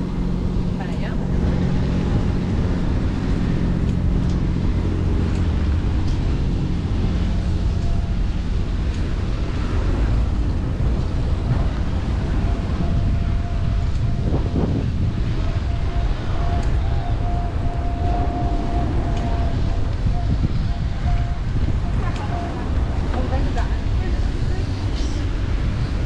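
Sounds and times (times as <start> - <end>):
road noise: 0.0 - 26.0
vehicle engine hum: 0.0 - 26.0
wind rumble: 0.0 - 26.0.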